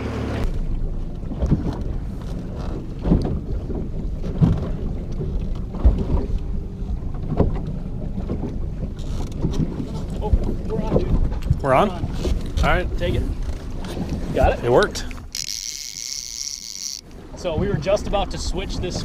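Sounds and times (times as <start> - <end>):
boat motor running: 0.0 - 19.0
waves slapping hull: 0.0 - 19.0
wind buffeting microphone: 0.7 - 15.4, 17.1 - 19.0.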